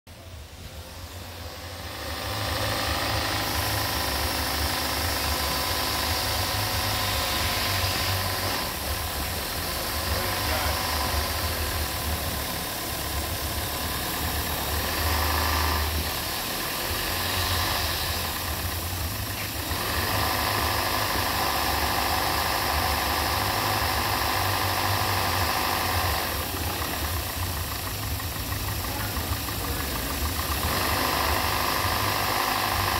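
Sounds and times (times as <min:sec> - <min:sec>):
car engine idling: 0:00.1 - 0:32.9.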